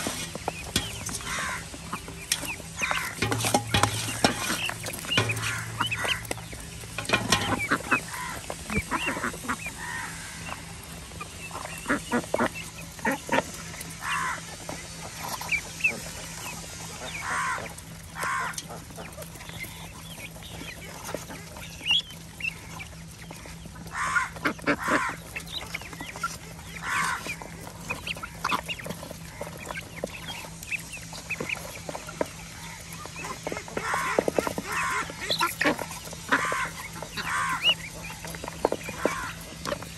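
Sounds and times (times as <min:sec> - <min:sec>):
chickens clucking: 0:00.0 - 0:39.9
ducks quacking: 0:00.0 - 0:39.9
high peeping: 0:00.0 - 0:39.9
low hum: 0:00.0 - 0:39.9.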